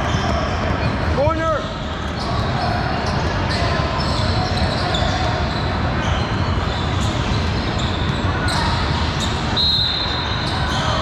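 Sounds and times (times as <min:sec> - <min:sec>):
din of players and spectators: 0:00.0 - 0:11.0
sneakers squeaking: 0:00.0 - 0:11.0.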